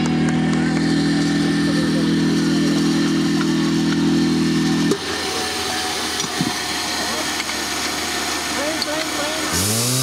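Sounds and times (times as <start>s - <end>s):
fire pump engine running: 0.0s - 10.0s.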